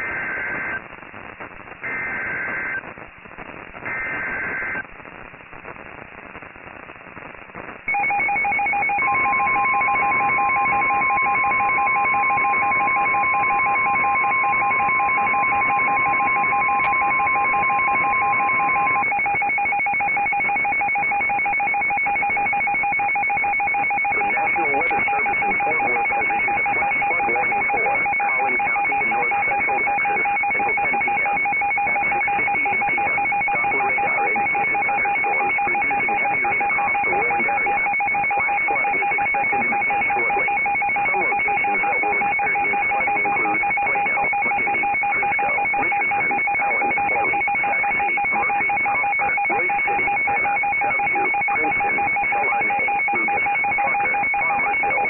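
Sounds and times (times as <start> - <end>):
pulsed two-pitch alarm: 7.9 - 55.0
steady high alarm tone: 7.9 - 55.0.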